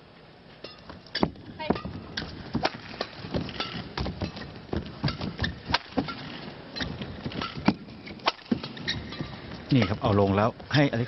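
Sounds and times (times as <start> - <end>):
rackets hitting shuttlecock: 0.7 - 10.1.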